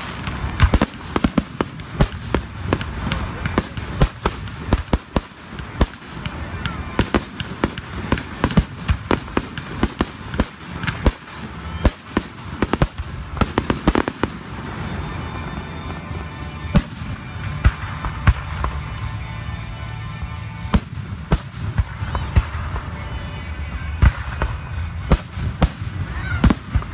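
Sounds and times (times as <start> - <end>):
fireworks bursting with sharp bangs: 0.0 - 19.4, 20.6 - 26.9.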